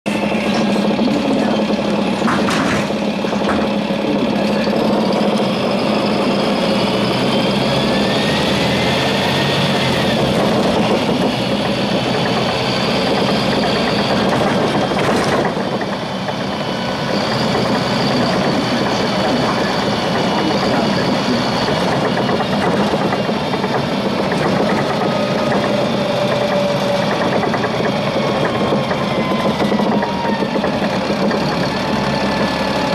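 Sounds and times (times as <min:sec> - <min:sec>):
bus engine running: 0:00.1 - 0:32.9.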